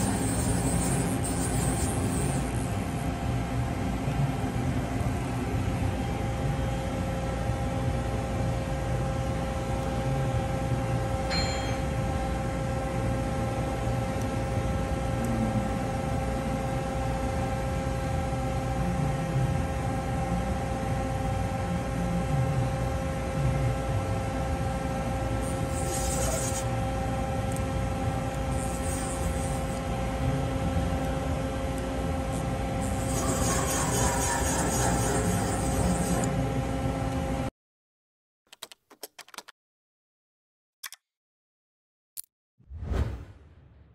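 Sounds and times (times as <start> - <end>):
steady whining tones: 0.0 - 22.2, 23.4 - 36.7.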